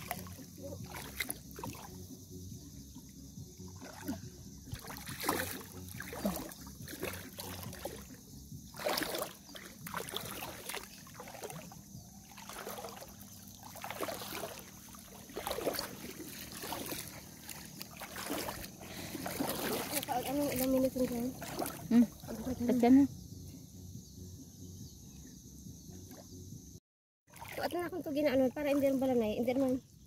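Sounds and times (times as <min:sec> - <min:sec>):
water sloshing while wading: 0:00.0 - 0:23.0, 0:27.3 - 0:29.9.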